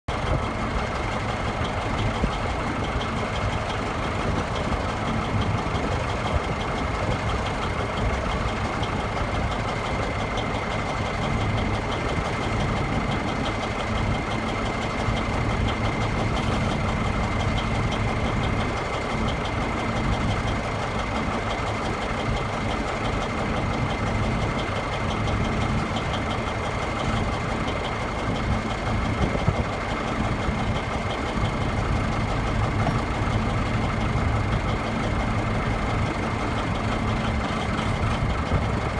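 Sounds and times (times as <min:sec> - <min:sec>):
diesel engine idling: 0:00.1 - 0:38.9.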